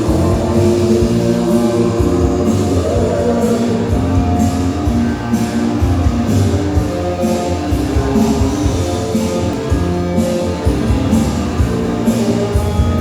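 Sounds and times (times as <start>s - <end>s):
loud party music with beat: 0.0s - 13.0s.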